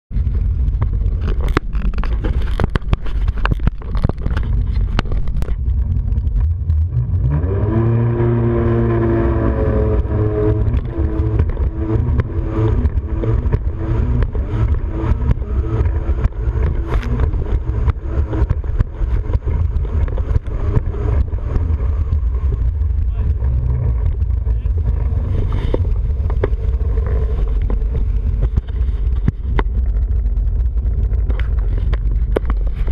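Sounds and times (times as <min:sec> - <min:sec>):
water rushing and slapping: 0:00.2 - 0:32.9
jet ski engine revving: 0:00.7 - 0:32.9.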